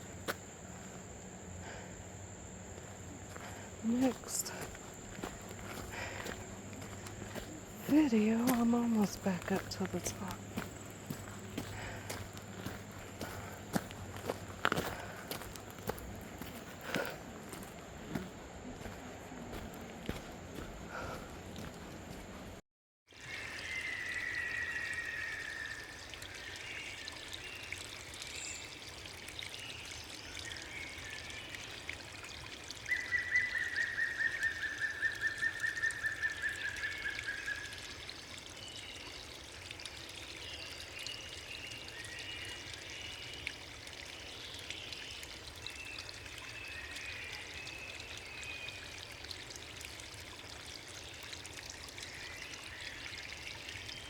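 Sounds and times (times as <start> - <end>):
flowing water rushing: 2.6 - 54.0.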